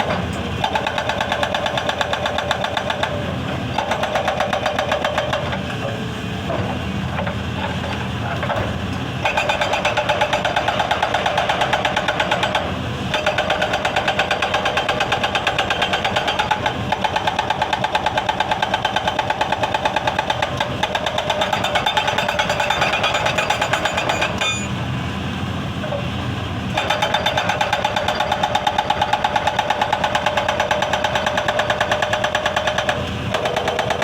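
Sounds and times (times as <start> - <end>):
hydraulic breaker hammering stone: 0.0 - 6.0, 6.6 - 24.7, 26.8 - 34.0
excavator engine running: 0.0 - 34.0.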